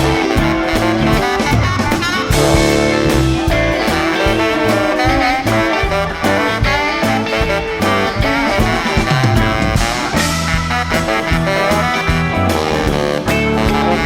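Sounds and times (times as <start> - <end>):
bass: 0.0 - 14.0
saxophone lead: 0.0 - 14.0
steady drums: 0.0 - 14.0.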